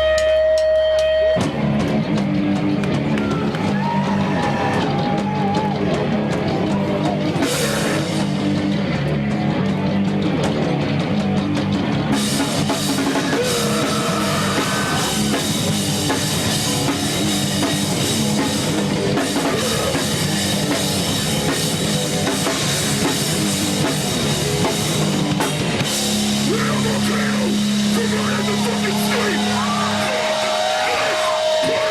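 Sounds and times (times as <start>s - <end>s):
distorted electric guitar: 0.0s - 31.9s
drum kit: 0.0s - 31.9s.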